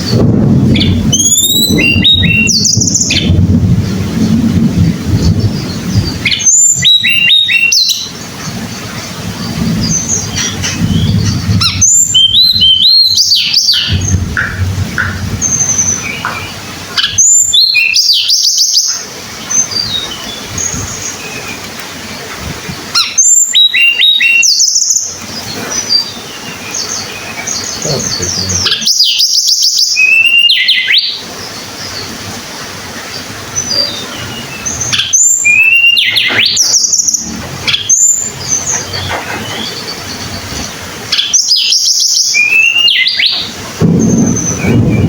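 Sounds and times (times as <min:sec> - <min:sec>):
songbird singing: 0:00.0 - 0:45.0.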